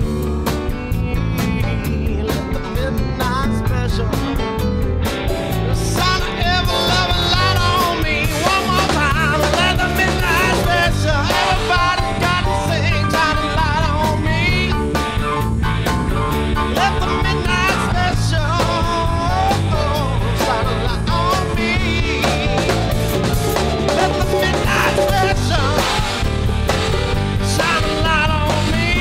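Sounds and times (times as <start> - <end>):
bending lead guitar line: 0.0 - 29.0
rock band music: 0.0 - 29.0.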